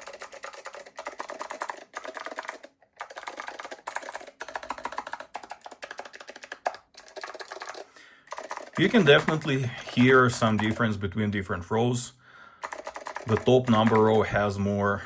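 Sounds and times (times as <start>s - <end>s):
keyboard keys clicking: 0.0s - 10.8s, 12.6s - 14.4s.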